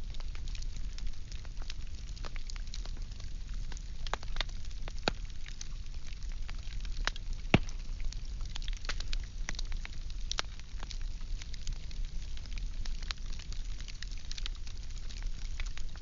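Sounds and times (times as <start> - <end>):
firewood crackling and popping: 0.0 - 16.0
low rumble of fire: 0.0 - 16.0.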